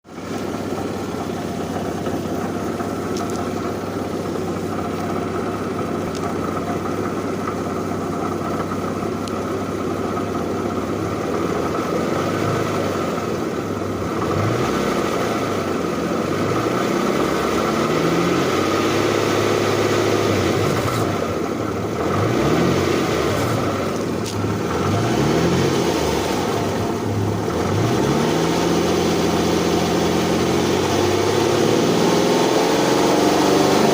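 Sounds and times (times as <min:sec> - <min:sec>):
car engine idling and revving: 0:00.0 - 0:33.9
engine rattling noise: 0:00.0 - 0:33.9.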